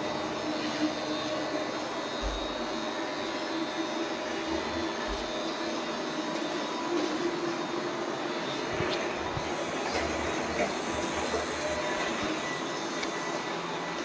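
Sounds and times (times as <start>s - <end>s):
robot vacuum cleaner whirring: 0.0s - 14.0s.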